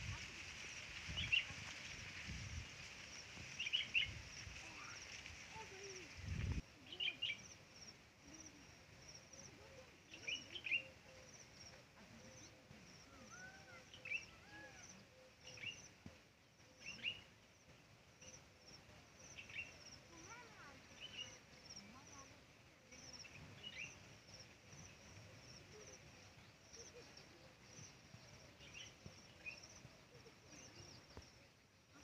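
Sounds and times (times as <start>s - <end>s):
faint high-pitched chirps: 3.1s - 32.0s.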